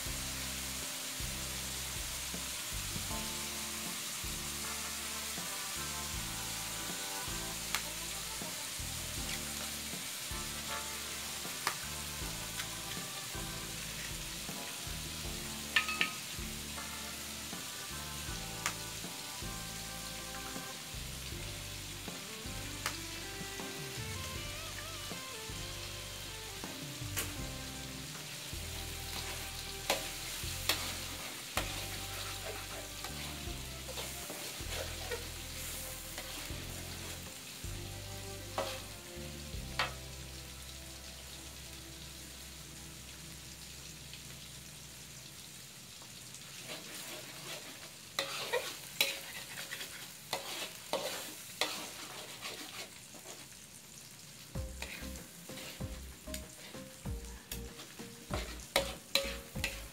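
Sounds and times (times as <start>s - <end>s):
spatula scraping a wok: 0.0s - 25.2s, 26.6s - 40.1s, 46.5s - 53.7s, 54.6s - 59.9s
eggs and meat sizzling in a wok: 0.0s - 59.9s.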